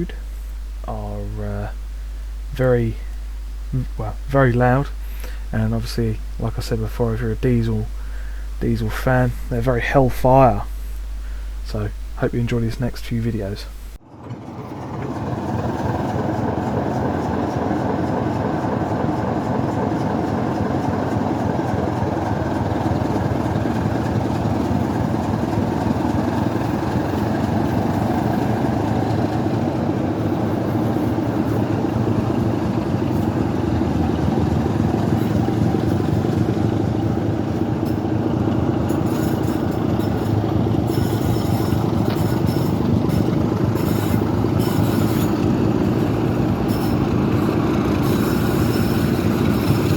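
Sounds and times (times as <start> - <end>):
diesel locomotive engine drone: 0.0 - 49.9.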